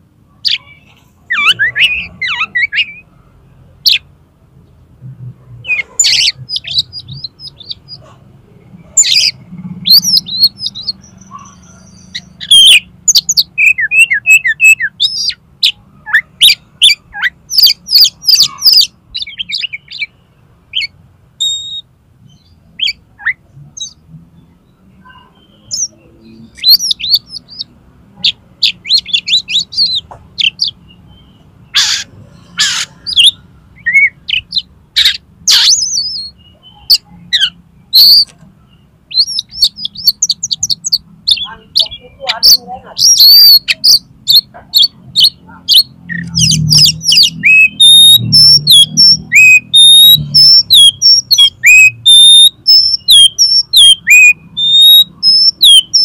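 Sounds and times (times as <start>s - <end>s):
bird singing trills and whistles: 0.4s - 3.1s, 3.8s - 4.0s, 5.6s - 8.1s, 8.9s - 56.0s.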